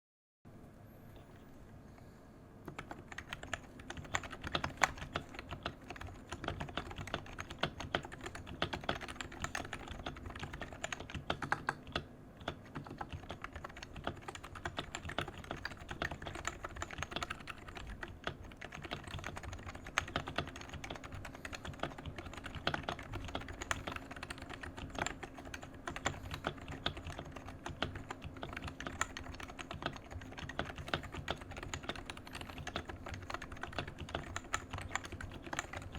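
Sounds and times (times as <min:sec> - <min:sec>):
typing on a keyboard: 0:02.7 - 0:35.9.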